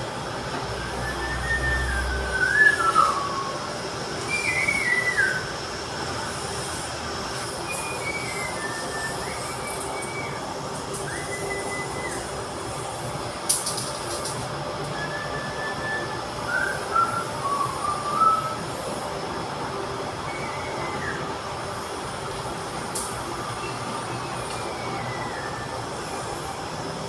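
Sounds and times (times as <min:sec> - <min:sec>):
steady mechanical noise: 0:00.0 - 0:27.0.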